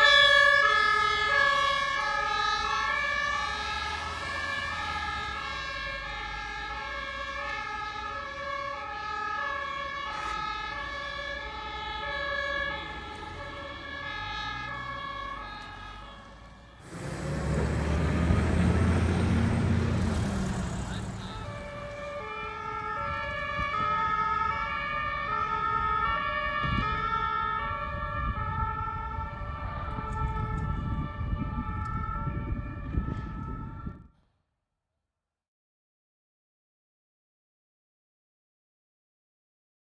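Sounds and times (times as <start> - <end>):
vehicle passing with engine and tyre noise: 0.0 - 33.9
two-tone emergency sirens: 0.0 - 34.3.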